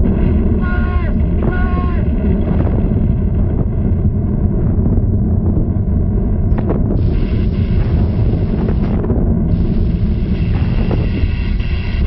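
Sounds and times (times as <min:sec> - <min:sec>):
deep volcano rumbling: 0:00.0 - 0:12.0.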